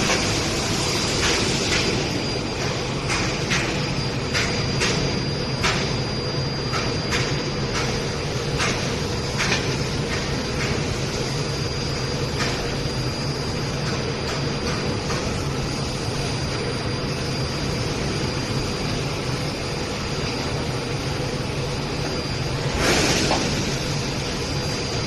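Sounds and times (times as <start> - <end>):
machinery hum with high whine: 0.0 - 25.0.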